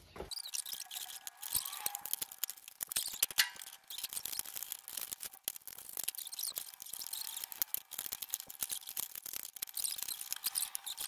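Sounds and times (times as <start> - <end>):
plastic packaging crackling: 0.3 - 11.0
scissors cutting plastic: 0.3 - 11.0.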